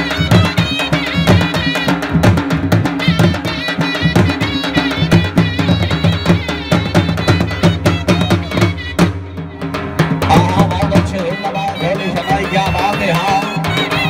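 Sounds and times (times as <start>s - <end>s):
barrel drums beating: 0.0s - 14.0s.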